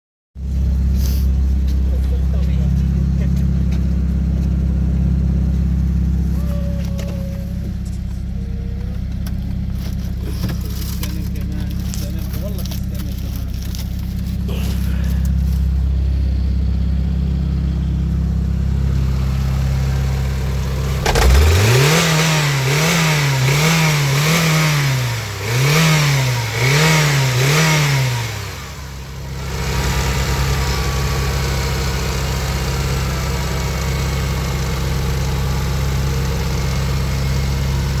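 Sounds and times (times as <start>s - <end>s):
car engine idling and revving: 0.4s - 38.0s.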